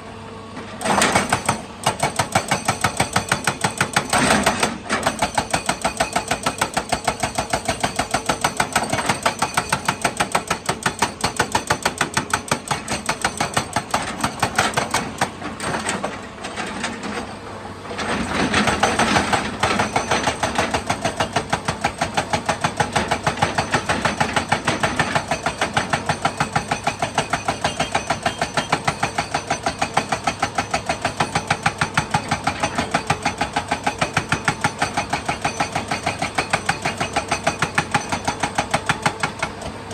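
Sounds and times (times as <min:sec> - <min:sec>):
excavator diesel engine clattering: 0:00.5 - 0:39.9.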